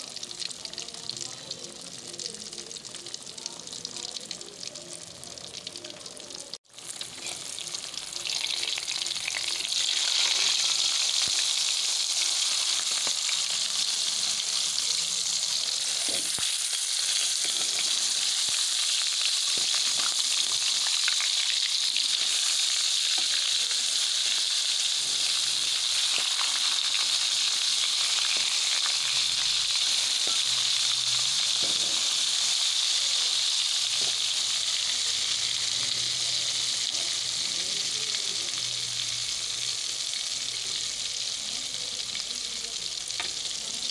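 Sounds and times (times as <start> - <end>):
fish sizzling in pan: 0.0 - 43.9.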